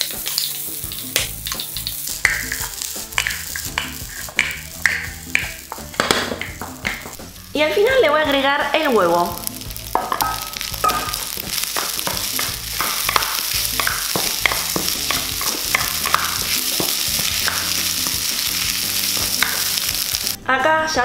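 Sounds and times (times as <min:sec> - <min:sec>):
rice sizzling in a wok: 0:00.0 - 0:20.4.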